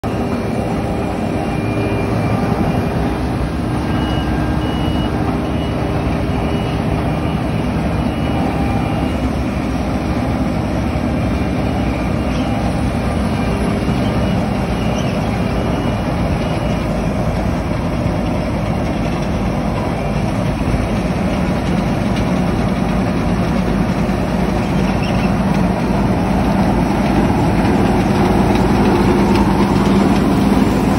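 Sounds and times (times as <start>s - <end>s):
combine harvester droning: 0.0s - 30.9s.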